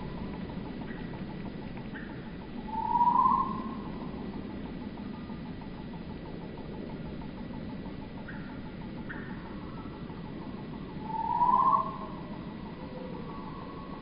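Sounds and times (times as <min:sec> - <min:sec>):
faint ticks: 0:00.0 - 0:14.0
slowed birdsong deep tones: 0:00.0 - 0:14.0.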